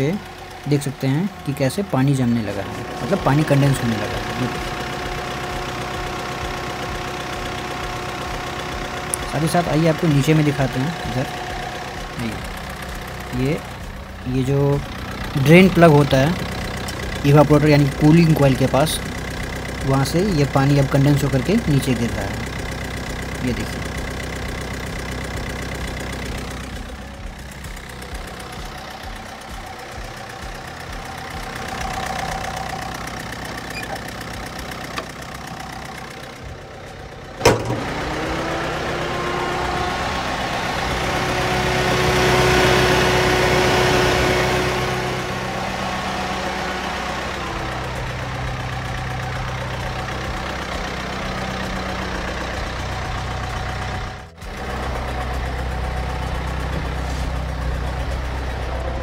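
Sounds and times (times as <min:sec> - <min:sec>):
car engine idling hum: 0:00.0 - 0:59.0.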